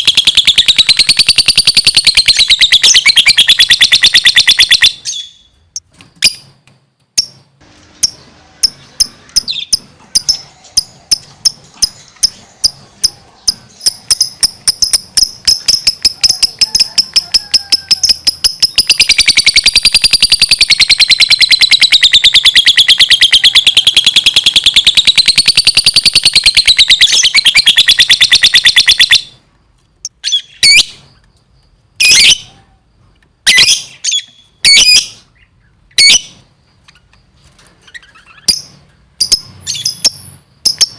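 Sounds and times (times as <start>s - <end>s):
lovebird chirping and trilling: 0.0s - 6.6s, 8.0s - 29.4s, 30.0s - 31.4s, 32.0s - 32.6s, 33.4s - 40.9s.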